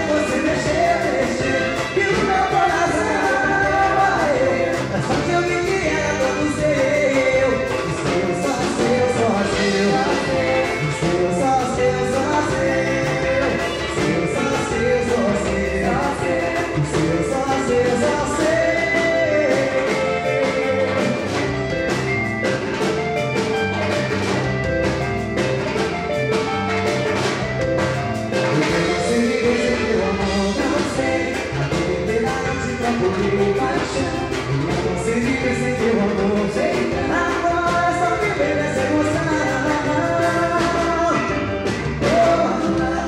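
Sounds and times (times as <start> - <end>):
man singing: 0.0 - 21.7, 28.3 - 43.0
drums and percussion: 0.0 - 43.0
electric bass: 0.0 - 43.0.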